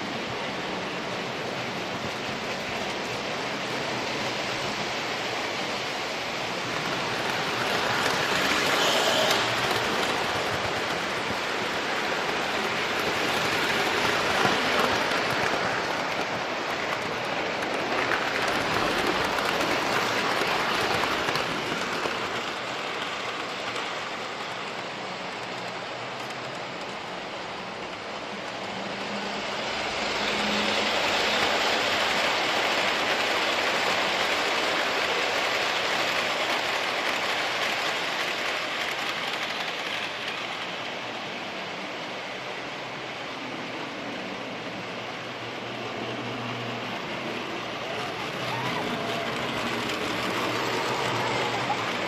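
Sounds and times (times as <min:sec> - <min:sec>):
train passing: 0:00.0 - 0:52.0.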